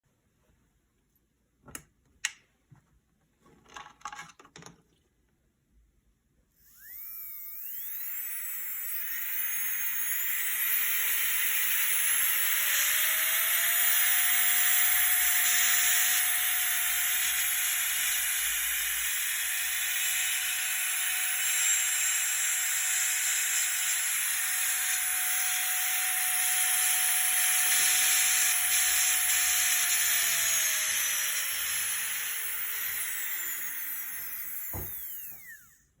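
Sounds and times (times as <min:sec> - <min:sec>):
electric nail drill whine: 0:06.6 - 0:36.0.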